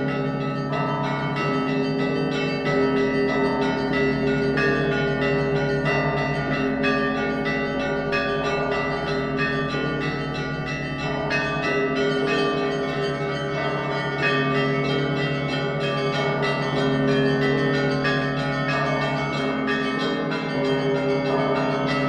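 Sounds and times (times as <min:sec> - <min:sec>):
large bells humming: 0:00.0 - 0:22.0.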